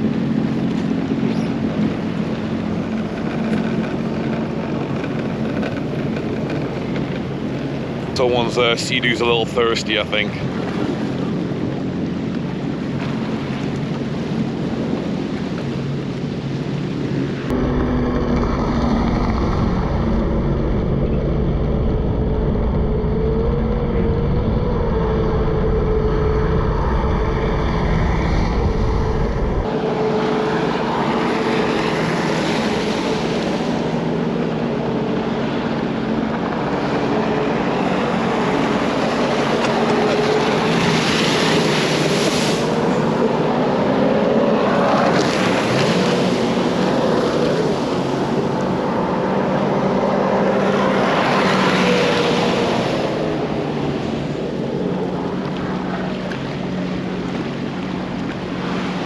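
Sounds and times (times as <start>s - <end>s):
deep engine drone: 0.0s - 59.0s
jet ski engines running: 0.0s - 59.0s
wind noise on microphone: 10.4s - 59.0s.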